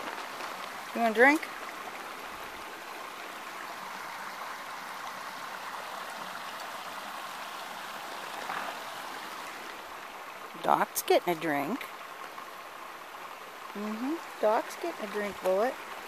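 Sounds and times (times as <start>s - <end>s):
creek running over stones: 0.0s - 16.0s.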